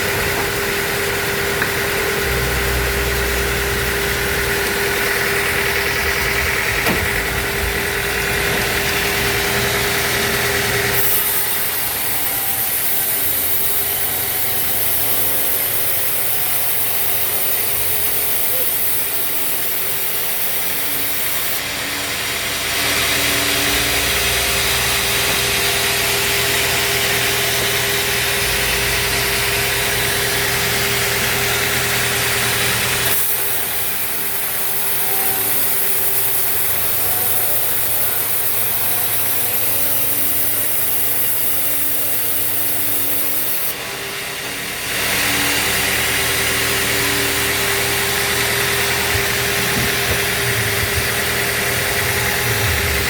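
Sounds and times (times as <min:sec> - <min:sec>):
band saw blade cutting wood: 0:00.0 - 0:53.0
sawmill motor hum: 0:00.0 - 0:53.0.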